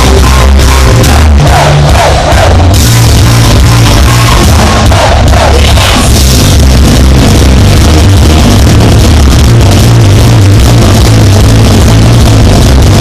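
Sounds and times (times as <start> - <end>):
live punk rock band: 0.0 - 13.0.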